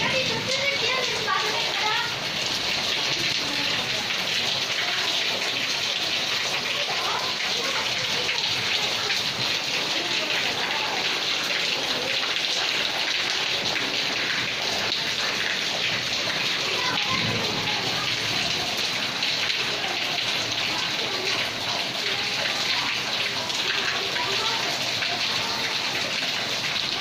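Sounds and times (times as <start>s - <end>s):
runoff splashing on wet floor: 0.0s - 27.0s
steady rain on concrete: 0.0s - 27.0s.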